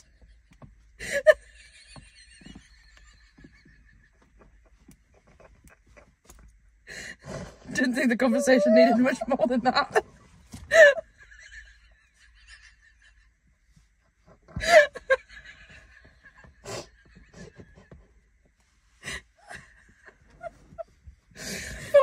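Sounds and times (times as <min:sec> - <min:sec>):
women laughing breathily: 0:00.0 - 0:06.1, 0:08.4 - 0:13.5, 0:14.5 - 0:18.1, 0:19.0 - 0:22.0.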